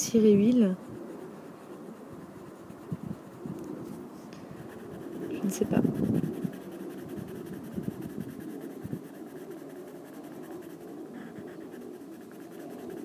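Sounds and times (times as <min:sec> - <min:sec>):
coloured pencil scribbling on paper: 0:00.0 - 0:13.0.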